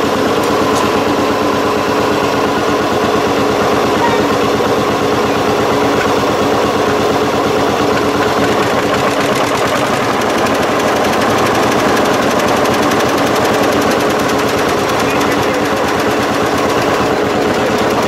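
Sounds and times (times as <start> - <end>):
tractor engine running fast: 0.0 - 18.0.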